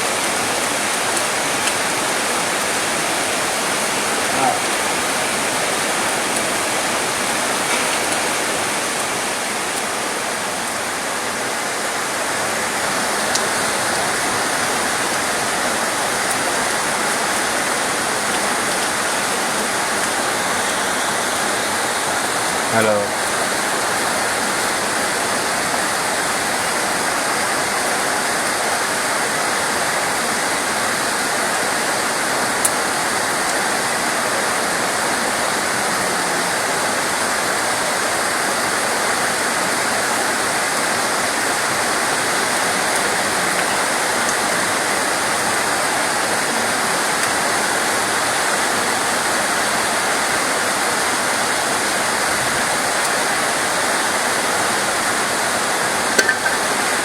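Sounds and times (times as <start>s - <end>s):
dense rain: 0.0s - 57.0s.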